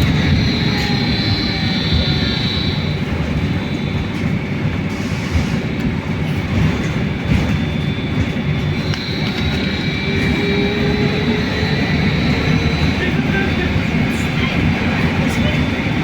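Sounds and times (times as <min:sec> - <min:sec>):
bus interior road rumble: 0:00.0 - 0:16.0.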